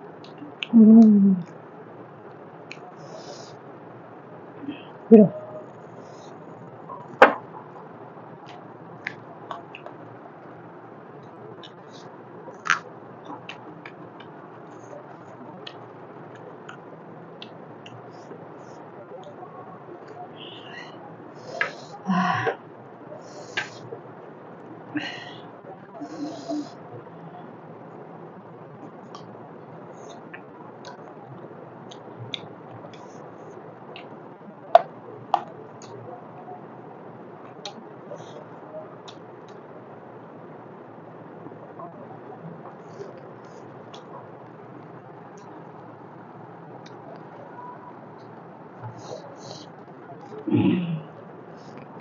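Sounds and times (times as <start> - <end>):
low background hiss: 0.0 - 52.0.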